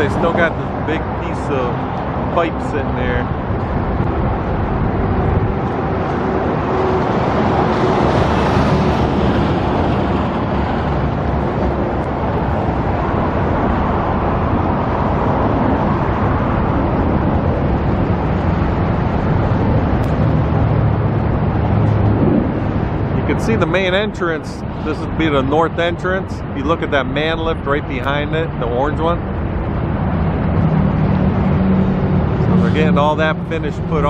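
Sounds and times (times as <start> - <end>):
vehicle engines humming: 0.0 - 34.0
wind rushing over microphone: 0.0 - 34.0.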